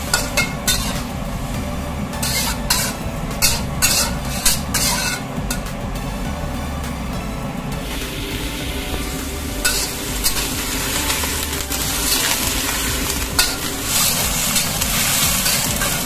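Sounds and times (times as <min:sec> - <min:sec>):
vegetables sizzling in hot oil: 0:00.0 - 0:05.7, 0:07.8 - 0:16.0
metal spatula scraping wok: 0:00.0 - 0:05.8, 0:07.4 - 0:16.0.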